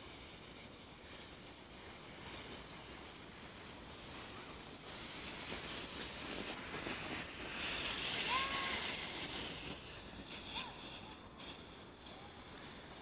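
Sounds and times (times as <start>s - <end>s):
sled runners hissing through snow: 0.0s - 13.0s.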